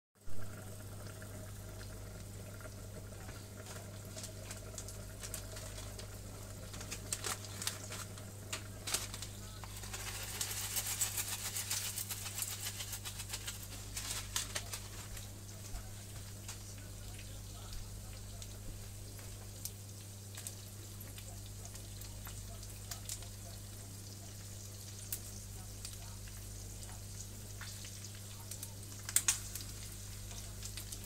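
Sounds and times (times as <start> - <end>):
chicken skin sizzling in fat: 0.2 - 31.0
steady low hum: 0.4 - 31.0.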